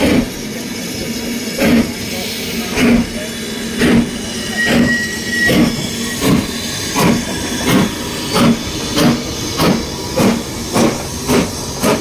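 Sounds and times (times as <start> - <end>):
steam hiss: 0.0 - 12.0
steam locomotive chuffing: 0.0 - 12.0.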